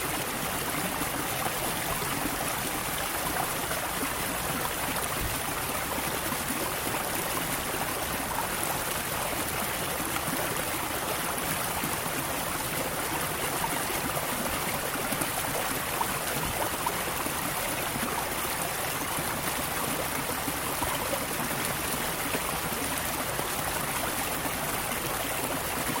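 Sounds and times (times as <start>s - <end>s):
waterfall pouring and splashing: 0.0s - 26.0s.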